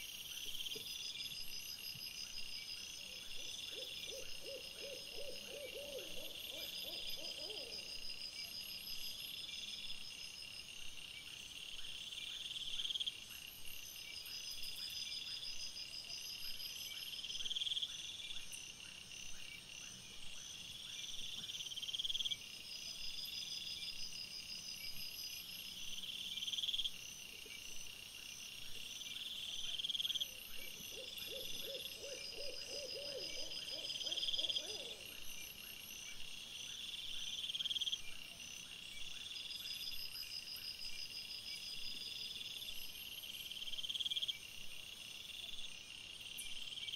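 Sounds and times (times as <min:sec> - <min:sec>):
insects chirping: 0:00.0 - 0:46.9
lower pulsed insect calls: 0:00.0 - 0:46.9.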